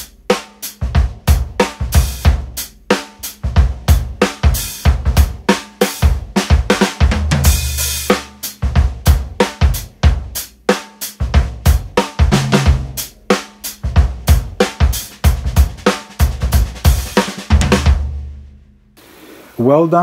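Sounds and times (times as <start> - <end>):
half-muffled kick drum: 0.0 - 18.2
crash cymbal and low drum: 0.0 - 18.3
drum kit groove: 0.0 - 20.0.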